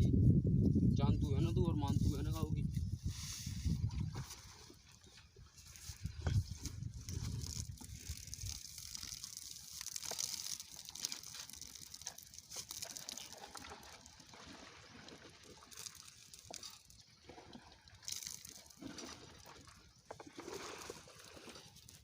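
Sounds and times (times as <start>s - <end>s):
water trickling from a pipe: 3.0s - 22.0s.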